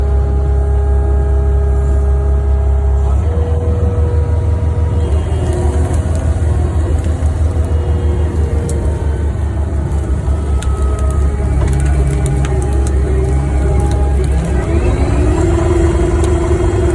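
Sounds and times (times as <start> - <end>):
loader engine running under load: 0.0 - 16.9
whine shifting in pitch: 0.0 - 16.9.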